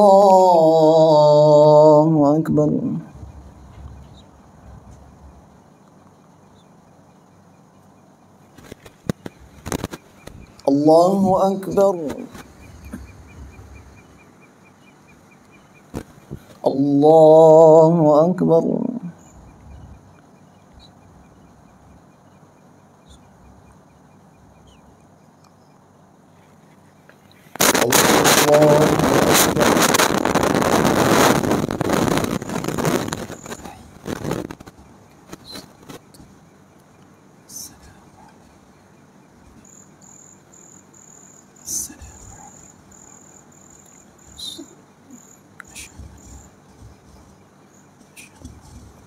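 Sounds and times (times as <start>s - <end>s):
low steady hiss: 0.0s - 49.0s
cricket chirping: 3.0s - 16.8s, 18.7s - 49.0s.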